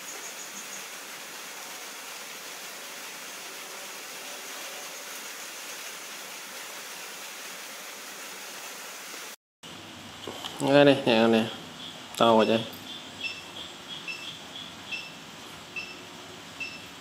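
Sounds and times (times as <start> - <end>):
room noise hiss: 0.0 - 17.0.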